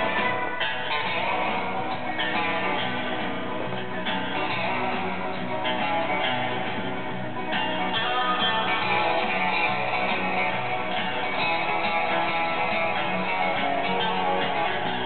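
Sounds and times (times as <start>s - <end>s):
guitar music from a loudspeaker: 0.0s - 15.0s.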